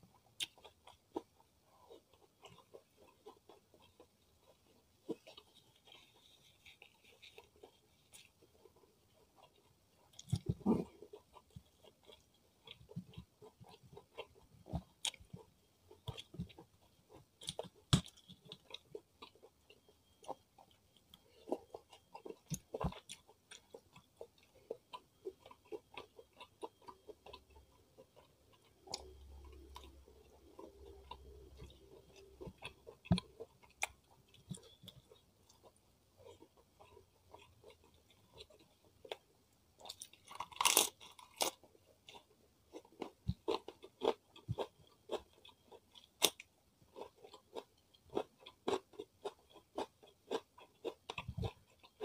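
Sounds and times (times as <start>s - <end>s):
chewing and biting: 0.0s - 52.0s.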